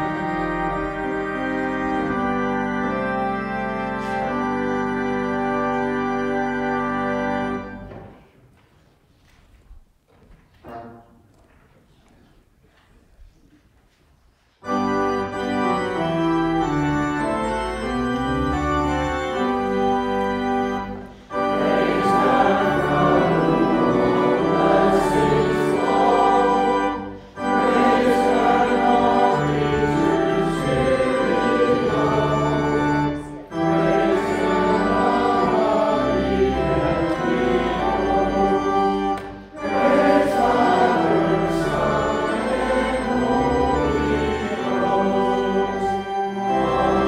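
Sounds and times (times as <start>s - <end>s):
organ playing sustained chords: 0.0s - 8.2s, 14.6s - 47.0s.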